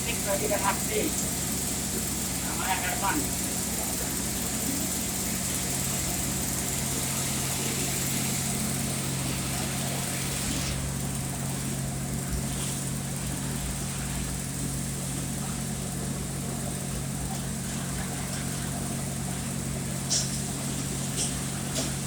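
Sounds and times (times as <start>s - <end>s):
welder electrical hum: 0.0s - 22.0s
welding arc hiss: 0.0s - 22.0s.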